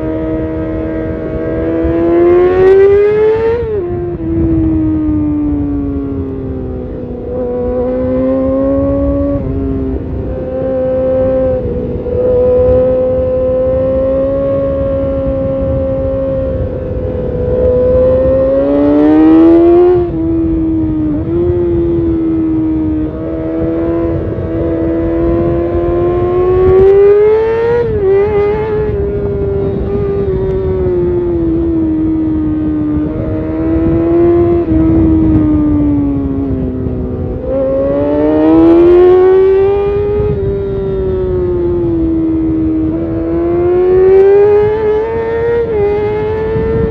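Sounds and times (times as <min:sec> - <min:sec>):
sport bike engine revving: 0:00.0 - 0:04.4, 0:06.6 - 0:46.9.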